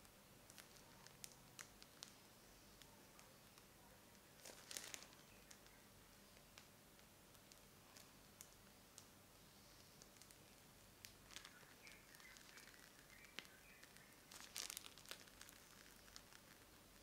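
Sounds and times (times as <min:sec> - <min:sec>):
plastic piping bag crinkling: 0:00.0 - 0:17.0.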